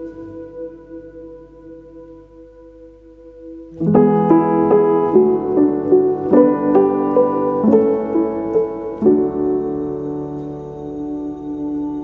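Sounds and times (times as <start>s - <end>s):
calm melody of struck notes: 0.0s - 12.0s.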